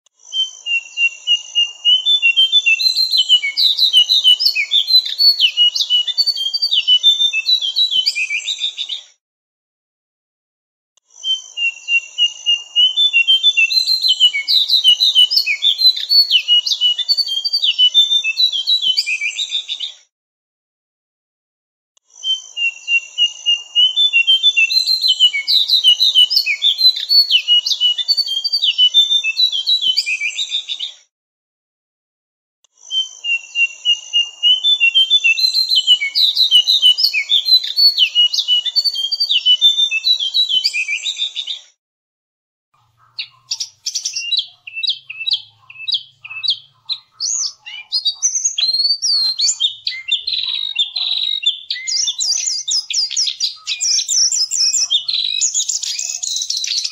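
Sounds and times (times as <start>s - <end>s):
songbird twittering: 0.3s - 8.8s, 11.2s - 19.8s, 22.2s - 30.7s, 32.9s - 41.4s, 43.1s - 56.9s.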